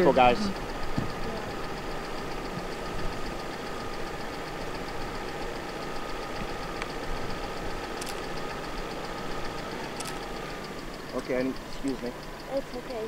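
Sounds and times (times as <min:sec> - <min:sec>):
faint steady tone: 0:00.0 - 0:13.0
light even ticking: 0:00.0 - 0:13.0
vehicle engine idling: 0:00.0 - 0:13.0.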